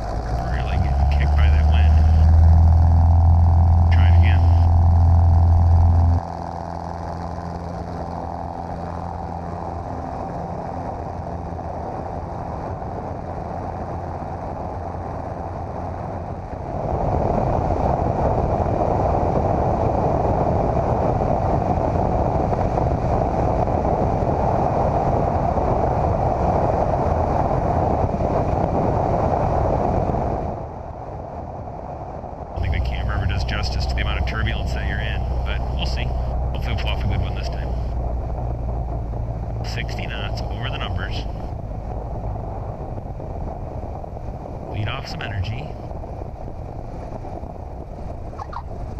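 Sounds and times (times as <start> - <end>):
light aircraft engine and propeller: 0.0 - 48.9
wind noise: 0.0 - 48.9.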